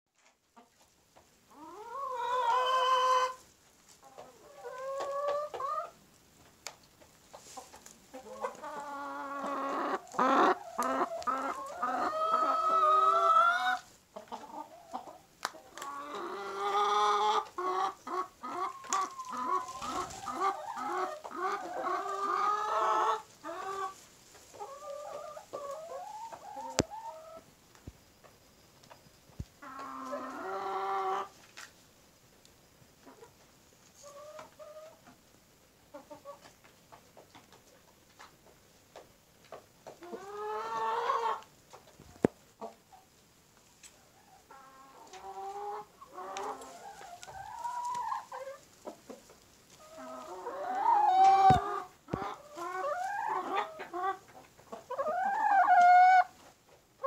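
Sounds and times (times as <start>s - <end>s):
rooster and hens clucking: 0.2s - 57.0s.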